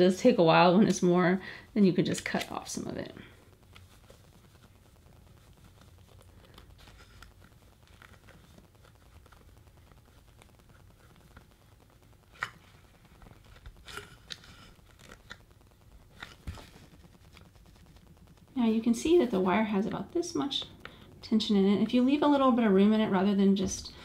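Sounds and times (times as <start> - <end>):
wire scratching and clicking: 0.0 - 24.0.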